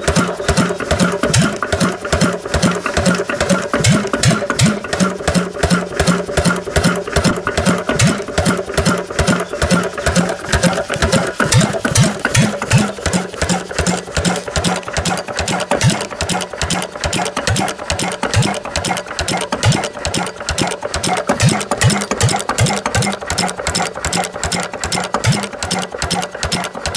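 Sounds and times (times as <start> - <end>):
stationary engine running: 0.0 - 26.9.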